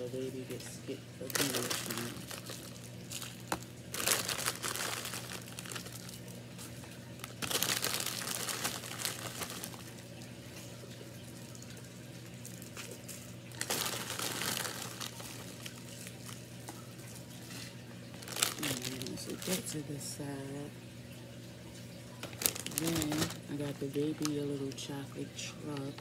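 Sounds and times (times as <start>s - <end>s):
steady low hum: 0.0s - 26.0s
plastic bags crinkling: 0.6s - 10.7s, 12.4s - 19.9s, 22.1s - 26.0s.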